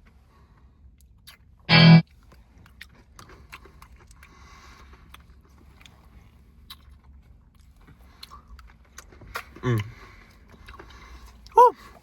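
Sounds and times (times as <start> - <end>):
faint chewing: 2.2 - 12.0.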